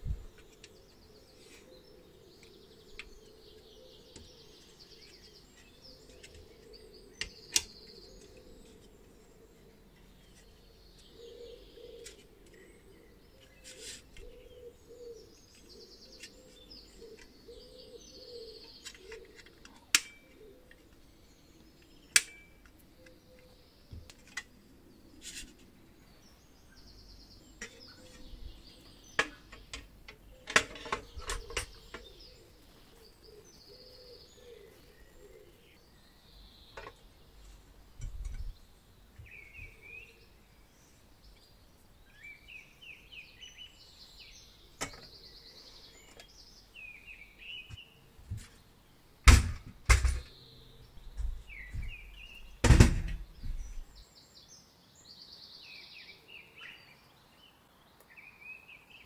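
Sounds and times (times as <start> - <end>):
faint birdsong: 0.0 - 59.0.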